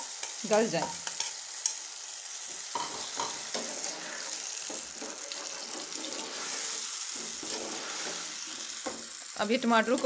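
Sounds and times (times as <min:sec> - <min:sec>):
steel spoon scraping a pan: 0:00.0 - 0:01.9, 0:02.7 - 0:09.0
vegetables sizzling in hot oil: 0:00.0 - 0:10.0.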